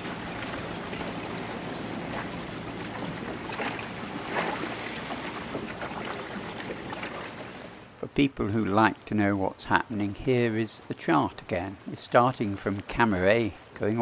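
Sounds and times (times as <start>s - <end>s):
water splashing against hull: 0.0s - 14.0s.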